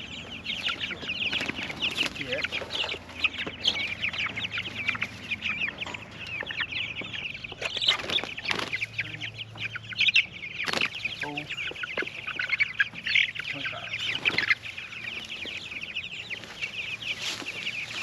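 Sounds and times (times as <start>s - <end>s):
chicks cheeping: 0.0s - 18.0s.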